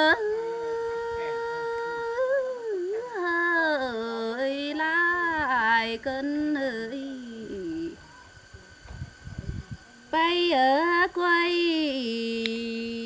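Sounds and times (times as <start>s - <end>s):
woman singing folk song: 0.0s - 8.0s, 10.1s - 13.0s.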